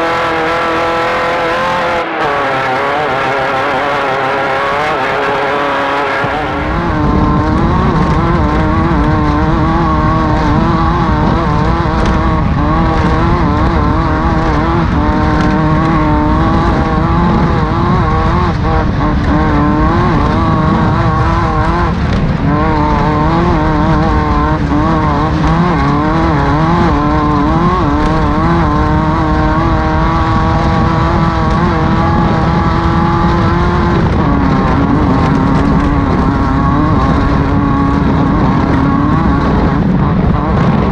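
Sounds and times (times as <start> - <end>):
race car engine at high revs: 0.0 - 40.9.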